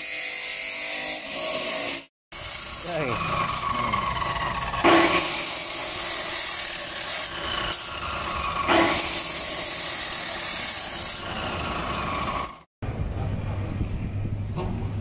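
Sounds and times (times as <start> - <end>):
chop saw grinding through steel: 0.0 - 12.7.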